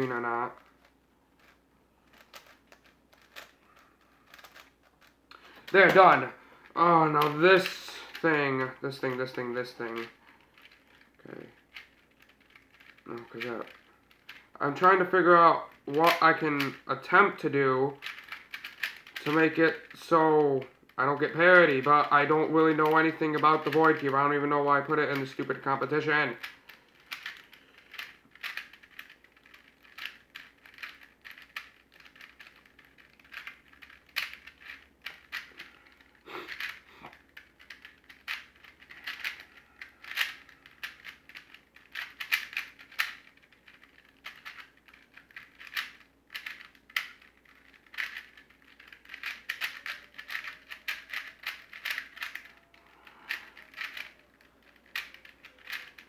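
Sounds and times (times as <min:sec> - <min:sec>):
puzzle cube clicking: 0:00.0 - 0:56.0.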